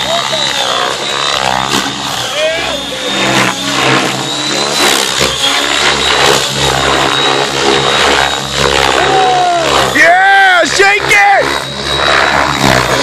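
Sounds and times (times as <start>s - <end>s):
high whine: 0.0s - 13.0s
model helicopter rotor noise: 0.0s - 13.0s.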